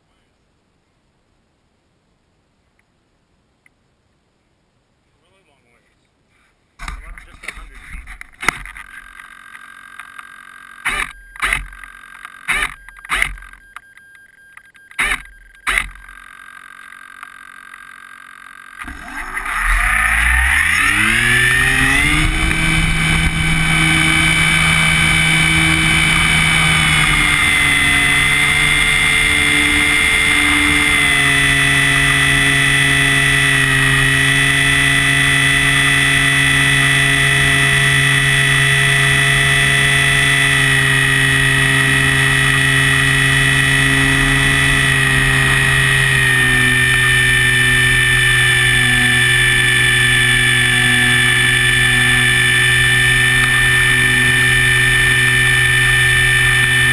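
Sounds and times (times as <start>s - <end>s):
electric motor and propeller whine: 8.0s - 13.7s, 15.0s - 56.9s.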